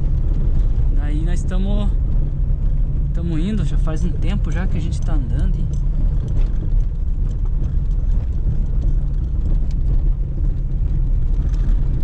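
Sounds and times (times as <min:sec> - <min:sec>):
car engine and road rumble: 0:00.0 - 0:12.0
faint ticks and rattles: 0:00.0 - 0:12.0.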